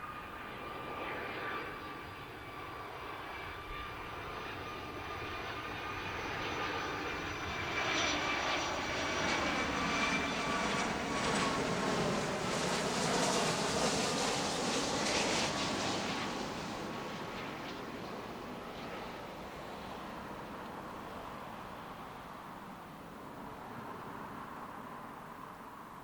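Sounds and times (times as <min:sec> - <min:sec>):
jet airliner approaching: 0:00.0 - 0:26.0.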